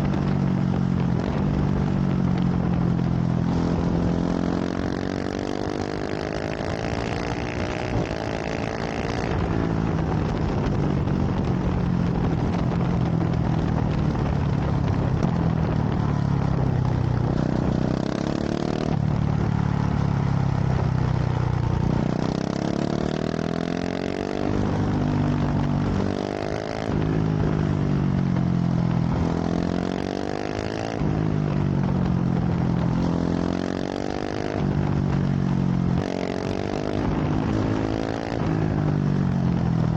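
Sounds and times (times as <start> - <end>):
motorcycle engine accelerating hard: 0.0 - 39.9.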